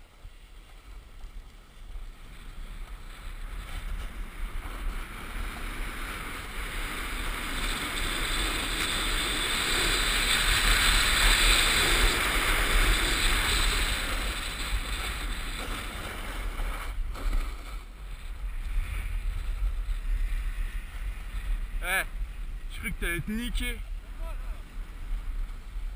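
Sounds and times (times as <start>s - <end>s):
skis hissing over snow: 0.0s - 25.9s
wind rumble on microphone: 0.0s - 25.9s.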